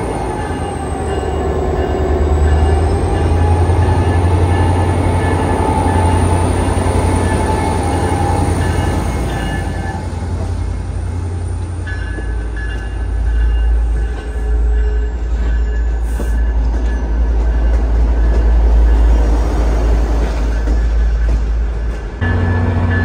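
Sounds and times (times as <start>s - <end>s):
wheels squealing on rails: 0.0s - 10.4s, 11.6s - 23.0s
diesel locomotive rumbling: 0.0s - 23.0s.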